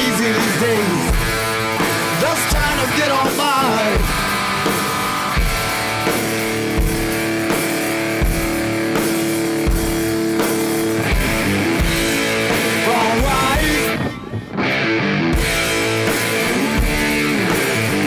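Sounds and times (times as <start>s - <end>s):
rock music: 0.0s - 18.0s.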